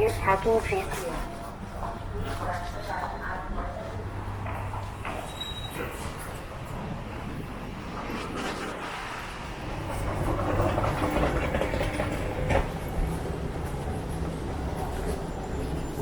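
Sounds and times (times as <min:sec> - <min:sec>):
vehicle rumble with clatter: 0:01.5 - 0:16.0.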